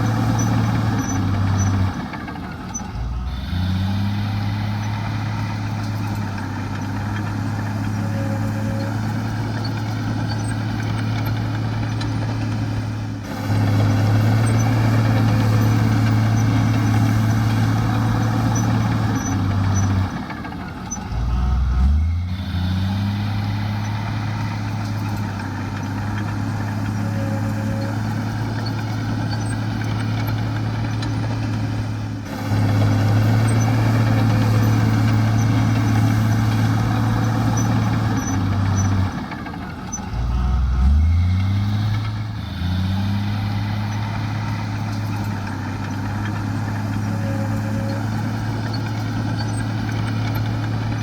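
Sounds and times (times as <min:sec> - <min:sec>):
heavy diesel engine under load: 0:00.0 - 0:51.0.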